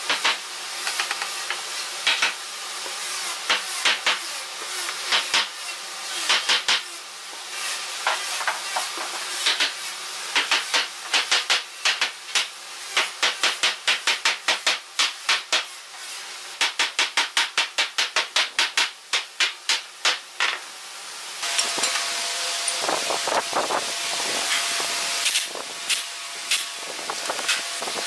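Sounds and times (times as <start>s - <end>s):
steady hiss: 0.1s - 28.0s.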